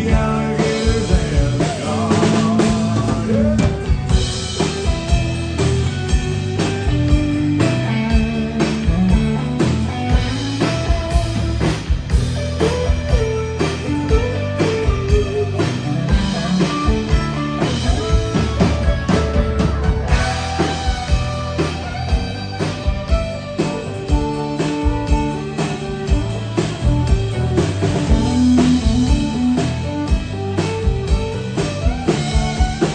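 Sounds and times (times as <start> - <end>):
country band playing: 0.0 - 32.9.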